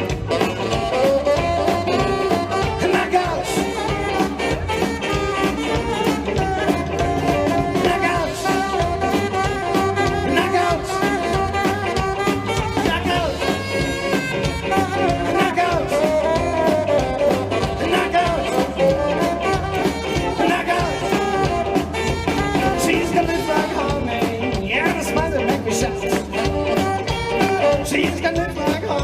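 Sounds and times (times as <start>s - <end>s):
rockabilly band playing: 0.0s - 29.0s.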